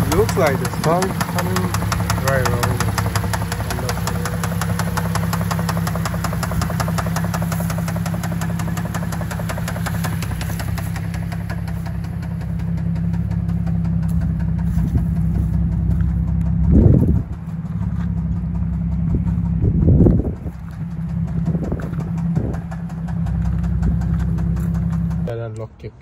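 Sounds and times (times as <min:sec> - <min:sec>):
rapid ticking from engine: 0:00.0 - 0:25.7
car engine idling: 0:00.0 - 0:26.0.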